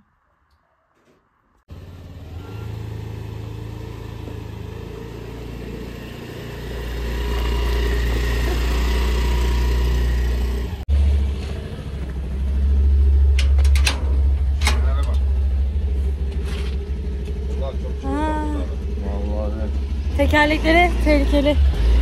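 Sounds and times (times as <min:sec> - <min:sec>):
motorcycle engine running: 0:01.7 - 0:22.0.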